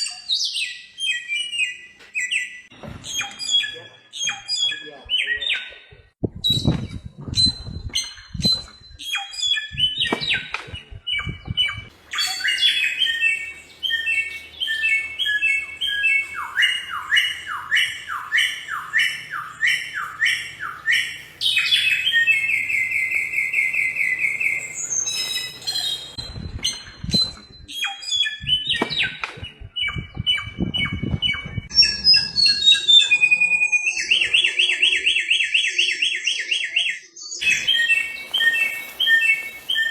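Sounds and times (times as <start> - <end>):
bird singing whistled song: 0.0 - 5.8, 6.4 - 39.9.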